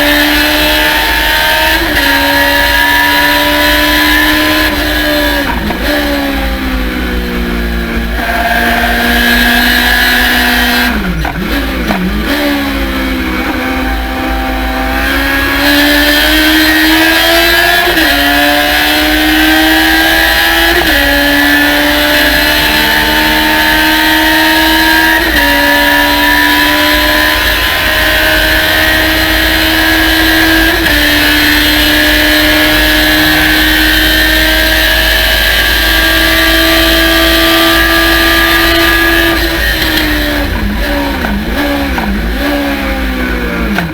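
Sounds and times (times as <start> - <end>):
race car engine at full throttle: 0.0 - 43.9.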